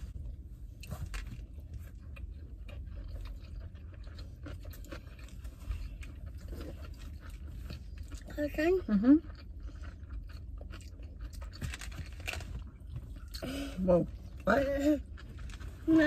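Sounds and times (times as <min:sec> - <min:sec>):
person chewing food: 0:00.0 - 0:15.9.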